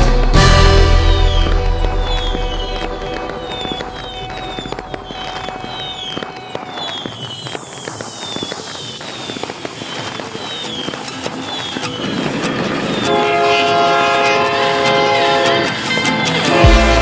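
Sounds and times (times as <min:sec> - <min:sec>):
falling firework whistles: 0:00.9 - 0:16.6
fireworks cracks and pops: 0:01.2 - 0:16.6.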